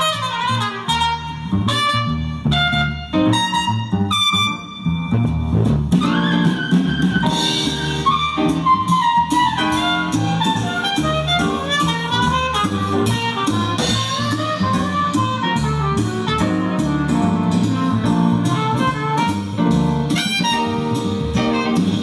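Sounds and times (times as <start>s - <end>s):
instrumental music with a steady beat: 0.0s - 22.0s.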